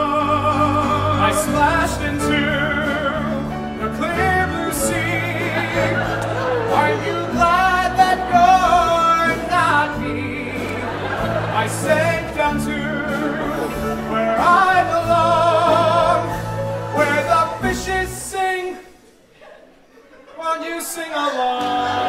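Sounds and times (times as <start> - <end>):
instrumental accompaniment: 0.0 - 18.6
voices singing with vibrato: 0.0 - 19.0.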